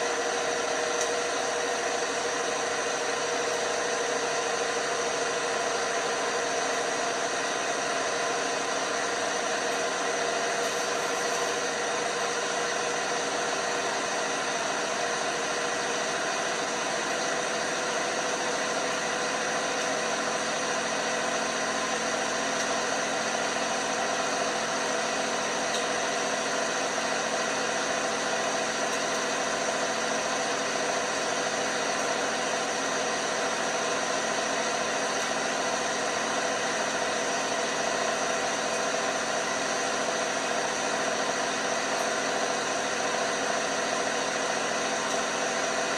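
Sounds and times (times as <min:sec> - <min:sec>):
washing machine humming and whining: 0:00.0 - 0:45.9.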